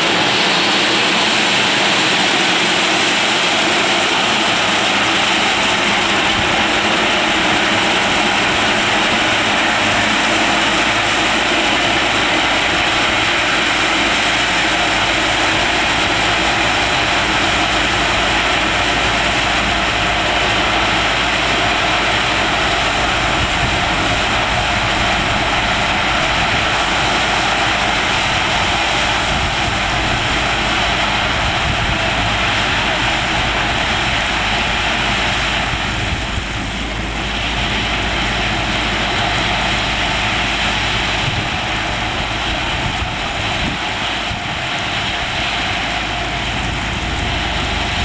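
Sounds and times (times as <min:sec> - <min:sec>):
loud steady mechanical noise: 0:00.0 - 0:48.0.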